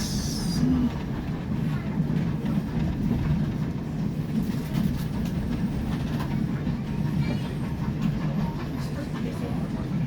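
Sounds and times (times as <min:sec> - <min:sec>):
train carriage rumbling: 0:00.0 - 0:10.0.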